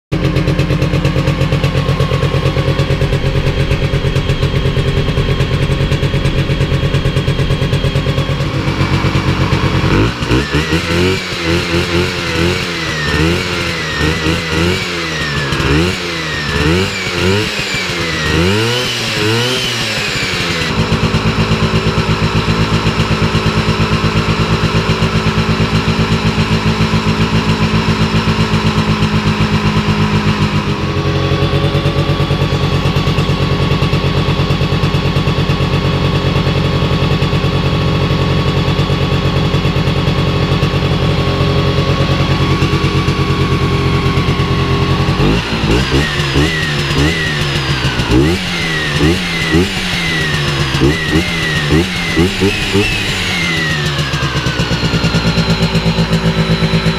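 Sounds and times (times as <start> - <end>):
two-stroke engine revving: 0.1 - 56.9.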